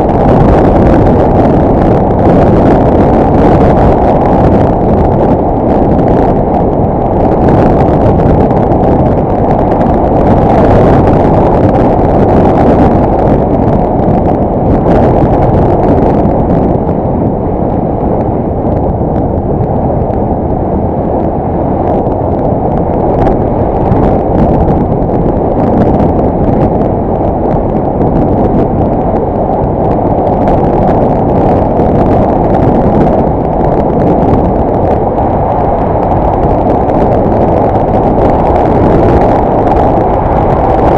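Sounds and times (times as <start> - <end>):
motorcycle engine riding: 0.0 - 40.9
wind rushing: 0.0 - 40.9.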